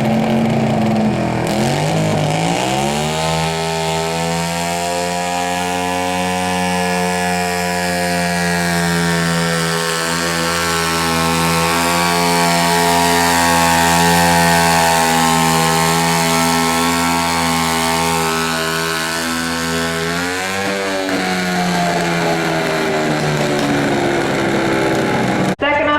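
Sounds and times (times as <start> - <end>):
garden tractor engine revving: 0.0 - 25.9.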